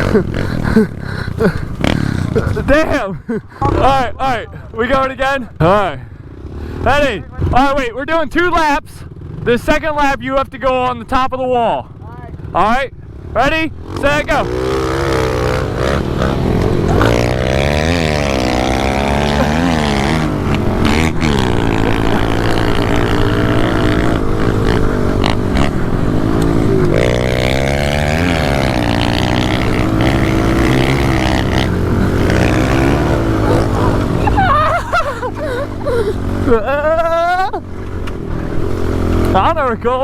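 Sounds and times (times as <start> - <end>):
small motorcycle engines revving: 0.0 - 11.0, 11.6 - 40.0.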